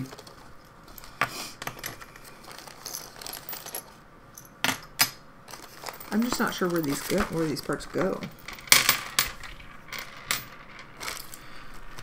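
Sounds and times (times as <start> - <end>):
small metal parts clinking: 0.0 - 7.5, 8.2 - 11.4.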